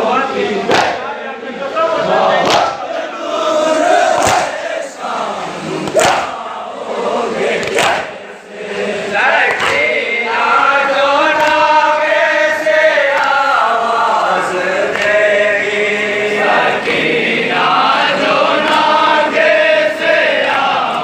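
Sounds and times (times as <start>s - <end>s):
men chanting a lament in unison: 0.0s - 21.0s.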